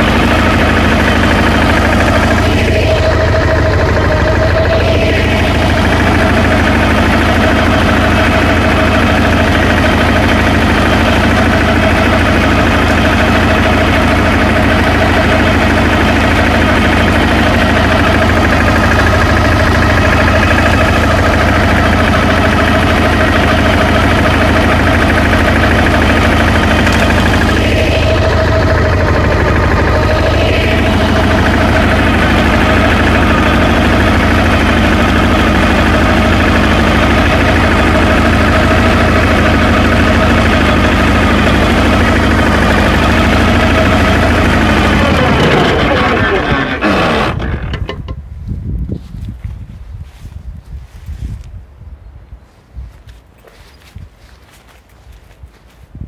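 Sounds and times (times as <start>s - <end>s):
flail shredder cutting grass: 0.0s - 48.1s
walking tractor running under load: 0.0s - 51.6s, 52.4s - 56.0s.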